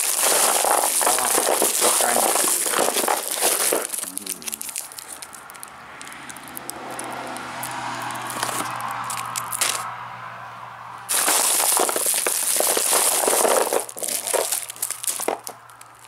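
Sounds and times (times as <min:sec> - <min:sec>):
plastic sweet wrappers crinkling: 0:00.0 - 0:09.8, 0:11.1 - 0:16.0.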